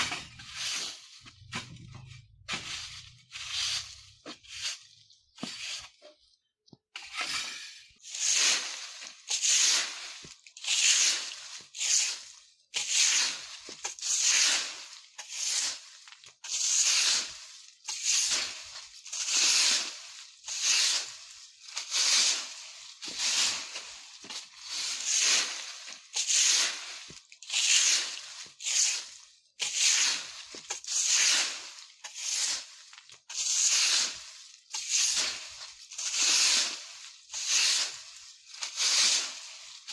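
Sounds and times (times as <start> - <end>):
broom sweeping dry leaves: 0.0 - 6.0, 7.0 - 39.9.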